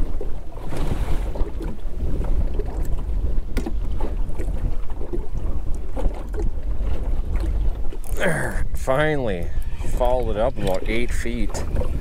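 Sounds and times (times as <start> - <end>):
waves slapping metal boat hull: 0.0 - 12.0
wind buffeting microphone: 0.0 - 12.0.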